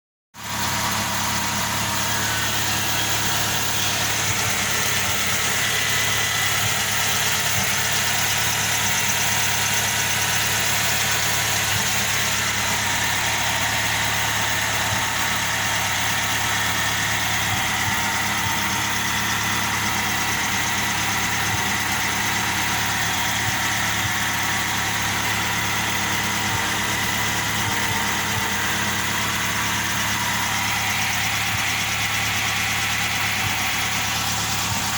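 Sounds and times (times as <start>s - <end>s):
engine idling: 0.4s - 34.9s.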